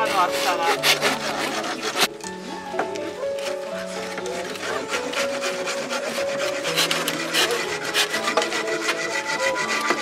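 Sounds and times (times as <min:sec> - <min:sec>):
hand saw cutting bamboo: 0:00.0 - 0:02.2, 0:03.4 - 0:10.0.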